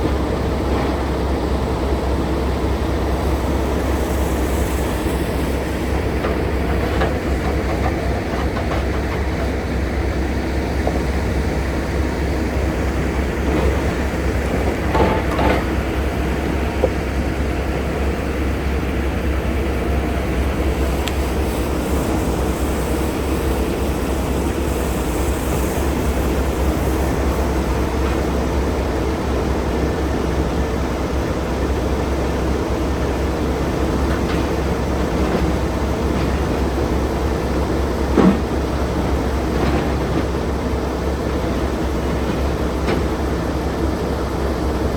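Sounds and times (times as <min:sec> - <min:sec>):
road noise: 0:00.0 - 0:44.9
truck diesel engine rumble: 0:00.0 - 0:44.9.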